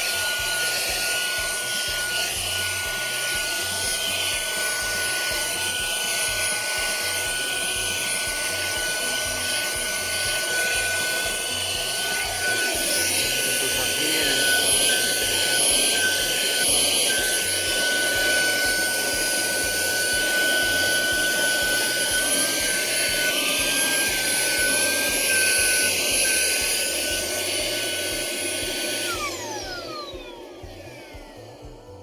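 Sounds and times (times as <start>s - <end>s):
handheld vacuum cleaner whining: 0.0s - 32.0s
vacuum motor spinning down: 0.0s - 32.0s.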